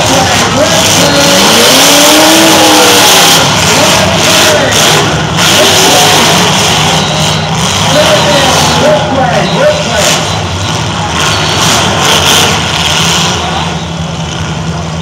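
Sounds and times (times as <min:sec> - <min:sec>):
car engines revving loudly: 0:00.0 - 0:15.0.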